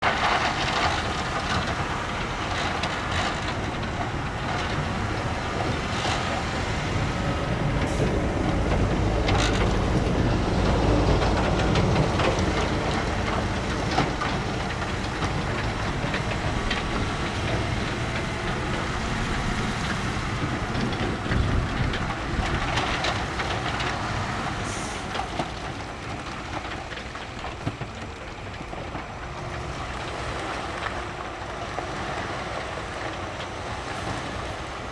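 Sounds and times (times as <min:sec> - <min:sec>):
bulldozer diesel engine under load: 0:00.0 - 0:34.9
tracks clanking and knocking: 0:00.0 - 0:34.9.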